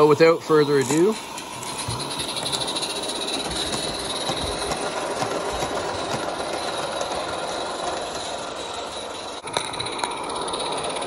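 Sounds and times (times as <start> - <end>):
steam locomotive rushing: 0.0 - 11.0
wheels clicking on rails: 0.0 - 11.0.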